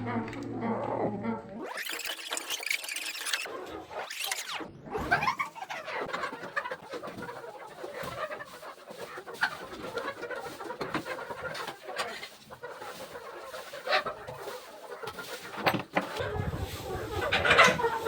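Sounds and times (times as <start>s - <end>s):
chickens clucking and chirping: 0.0s - 18.0s
sharp chicken calls: 1.6s - 18.0s.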